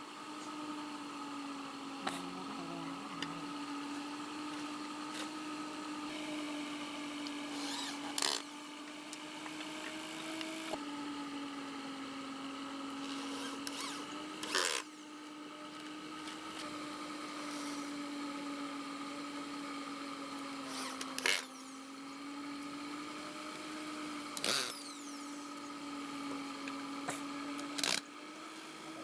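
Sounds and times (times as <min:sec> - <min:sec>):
power tool humming: 0:00.0 - 0:29.0.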